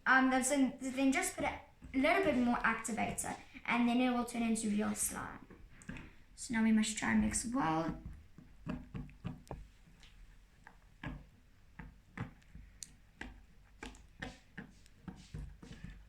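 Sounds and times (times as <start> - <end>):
stirrer tapping container: 0.8 - 16.0.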